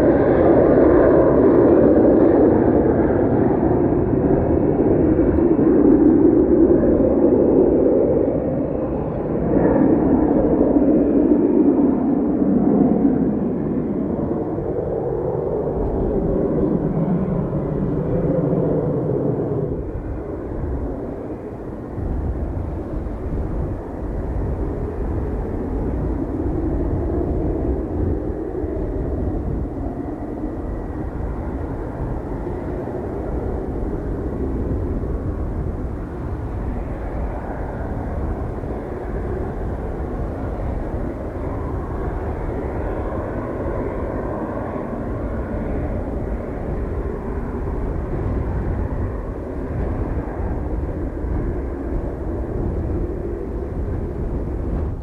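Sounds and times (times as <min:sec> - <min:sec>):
aircraft engines running: 0:00.0 - 0:55.0.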